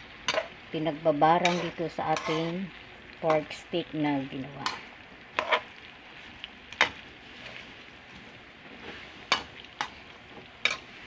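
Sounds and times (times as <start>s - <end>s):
spatula stirring meat in pan: 0.0s - 3.5s, 4.6s - 11.0s
soft sizzle of sauce: 0.0s - 11.0s.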